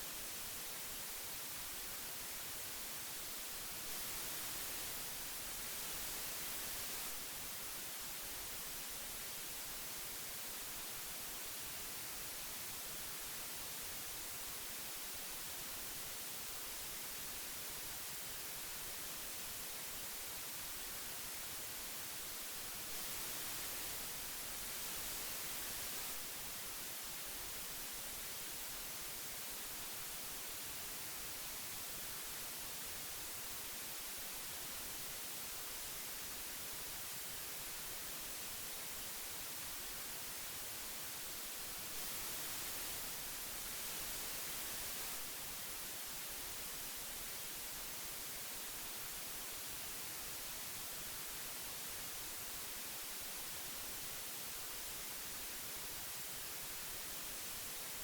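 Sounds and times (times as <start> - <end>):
tape hiss: 0.0 - 58.0.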